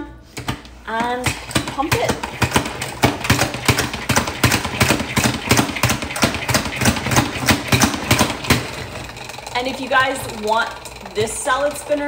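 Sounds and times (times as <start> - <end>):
spinning basket hum: 1.2 - 12.0
salad spinner plunger strokes: 1.3 - 12.0.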